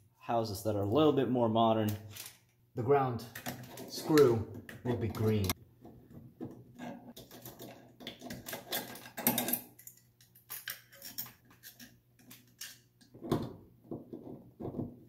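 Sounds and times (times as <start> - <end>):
small clicks and rattles of wires: 1.9 - 2.6, 3.3 - 14.8.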